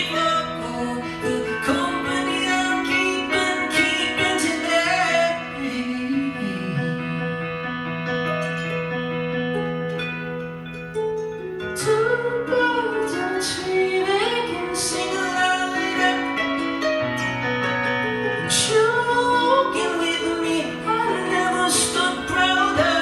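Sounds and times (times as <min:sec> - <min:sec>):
person singing long gliding notes: 0:00.0 - 0:10.6, 0:11.4 - 0:23.0
guitar playing: 0:00.0 - 0:23.0.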